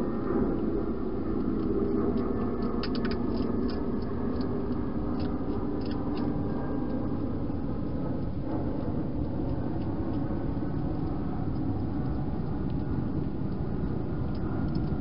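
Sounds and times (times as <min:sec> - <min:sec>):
hedgehog crunching dry food: 0:01.0 - 0:15.0.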